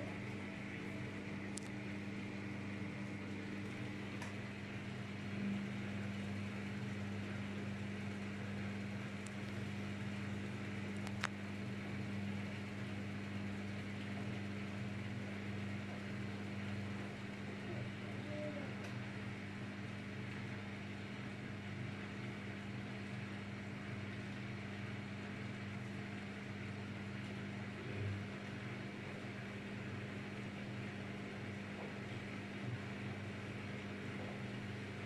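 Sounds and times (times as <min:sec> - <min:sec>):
washing machine motor humming: 0:00.0 - 0:35.0.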